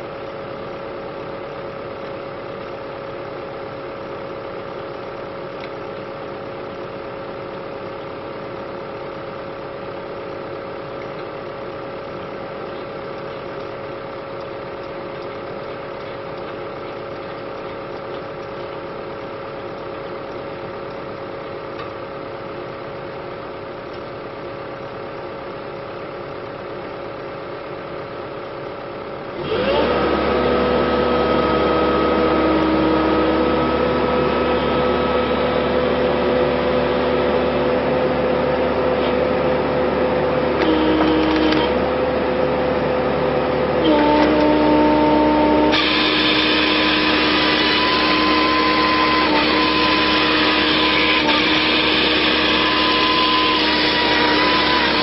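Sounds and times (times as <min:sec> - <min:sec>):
excavator diesel engine running: 0:00.0 - 0:55.0
loud machine running: 0:00.0 - 0:55.0.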